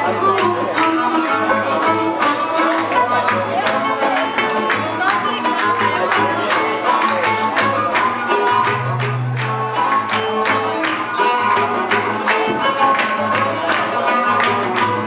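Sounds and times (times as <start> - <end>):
fiddles playing tune: 0.0 - 15.0.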